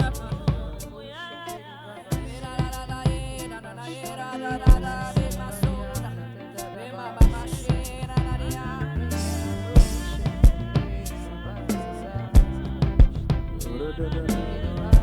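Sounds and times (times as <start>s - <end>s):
drum kit: 0.0s - 1.0s, 2.1s - 15.0s.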